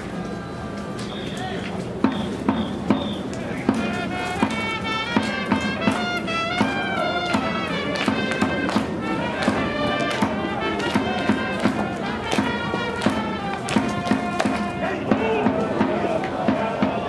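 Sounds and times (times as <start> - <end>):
steady drumbeat: 2.0 - 17.0.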